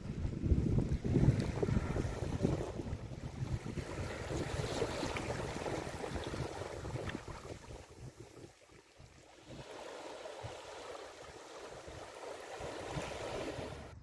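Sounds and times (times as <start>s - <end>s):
small waves washing on shore: 0.0s - 14.0s.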